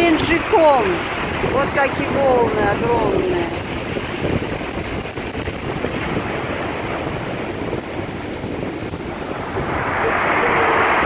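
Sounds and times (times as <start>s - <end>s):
waves breaking: 0.0s - 11.0s
wind buffeting microphone: 0.0s - 11.0s.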